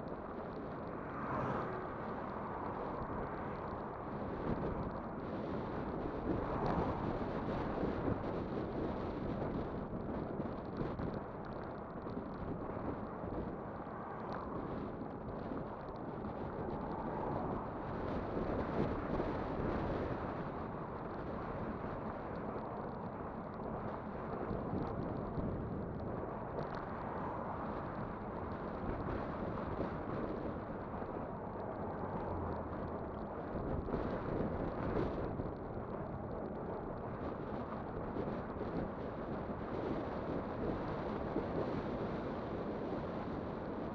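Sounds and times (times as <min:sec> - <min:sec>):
wind rushing over microphone: 0:00.0 - 0:43.9
tyres rumbling on road: 0:00.1 - 0:43.9.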